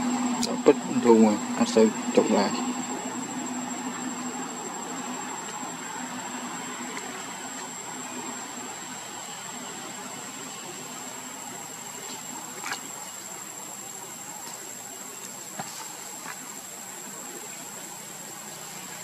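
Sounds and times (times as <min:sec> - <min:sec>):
constant hiss: 0:00.0 - 0:19.0
high insect drone: 0:00.0 - 0:19.0.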